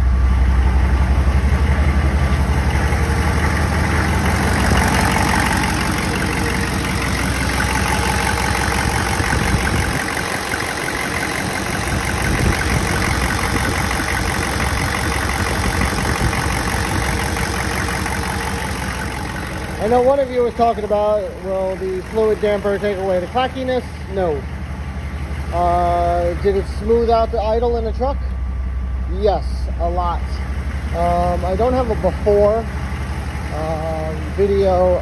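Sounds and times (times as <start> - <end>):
diesel engine idling clatter: 0.0 - 35.0.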